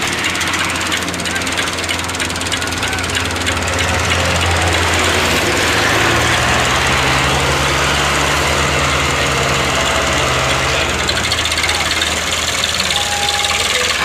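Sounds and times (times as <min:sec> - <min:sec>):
tractor diesel engine working hard: 0:00.0 - 0:14.0.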